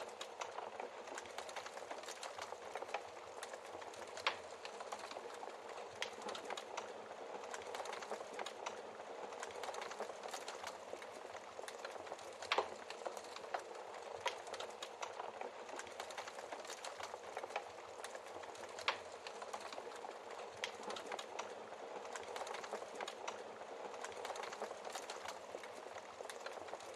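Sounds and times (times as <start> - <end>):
fire pops: 0.0 - 26.9
wood fire crackling: 0.0 - 26.9.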